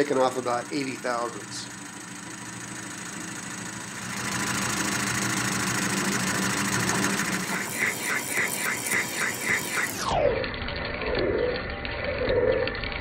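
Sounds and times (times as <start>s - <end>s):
metal lathe humming: 0.0s - 13.0s.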